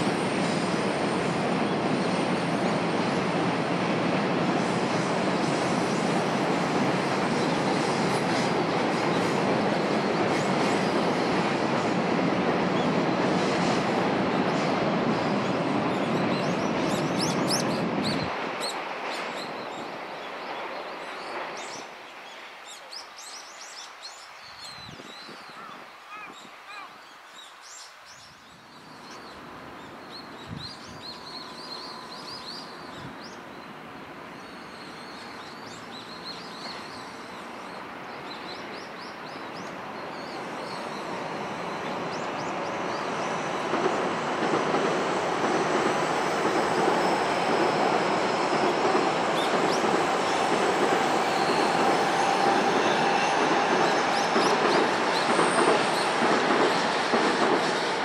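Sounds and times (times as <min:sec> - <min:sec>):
electric train approaching: 0:00.0 - 0:22.7, 0:28.7 - 0:58.0
freight train rail noise: 0:00.0 - 0:58.0.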